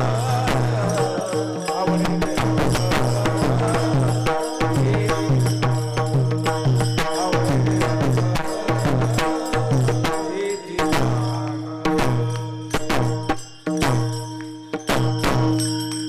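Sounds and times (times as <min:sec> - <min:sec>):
hand drum beating: 0:00.0 - 0:15.8.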